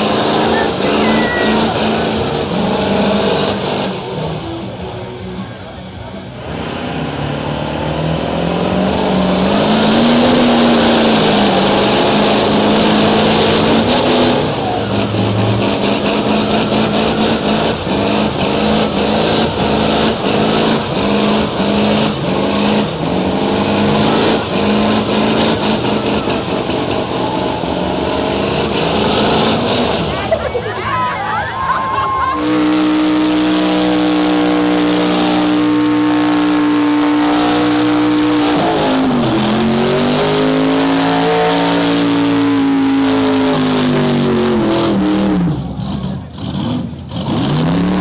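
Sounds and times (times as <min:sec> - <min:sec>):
truck engine revving hard: 0:00.0 - 0:48.0.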